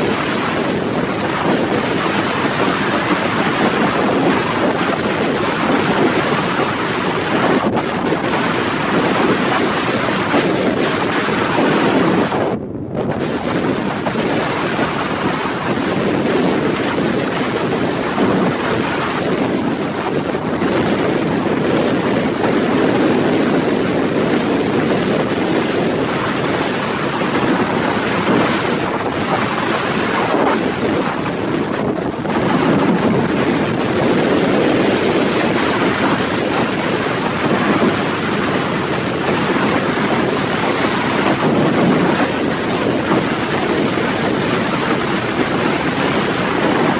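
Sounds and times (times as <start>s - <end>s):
strong wind on microphone: 0.0s - 46.9s.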